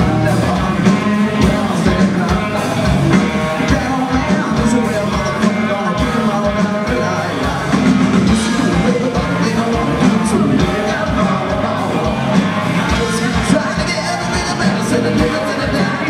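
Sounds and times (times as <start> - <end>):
drum beat: 0.0 - 16.0
electric guitar: 0.0 - 16.0
person singing rock vocals: 0.0 - 16.0.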